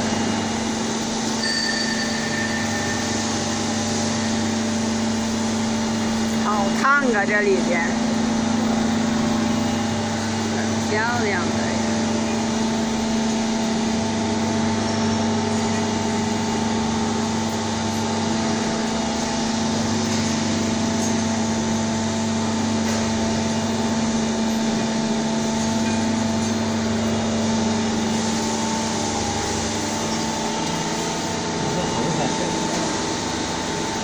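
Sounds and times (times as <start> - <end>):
industrial machinery humming: 0.0 - 34.0.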